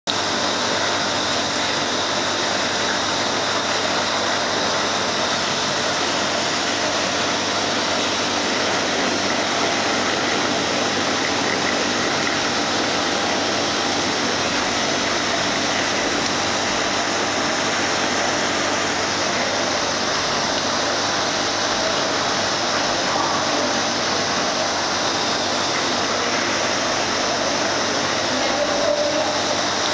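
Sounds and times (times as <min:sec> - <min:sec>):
aquarium pumps rushing: 0:00.1 - 0:29.9.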